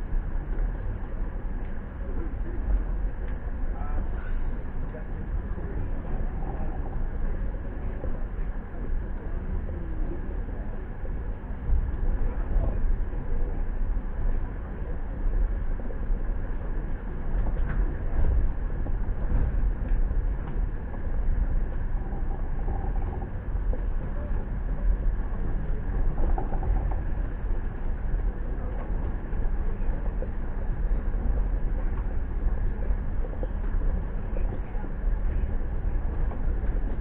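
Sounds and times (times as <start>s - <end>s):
low rumble of standing train: 0.0s - 37.0s.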